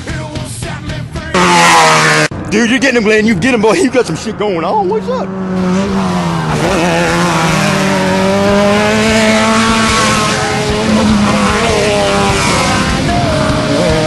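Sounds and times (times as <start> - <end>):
race vehicle engine running hard: 0.0 - 2.5, 3.3 - 14.0.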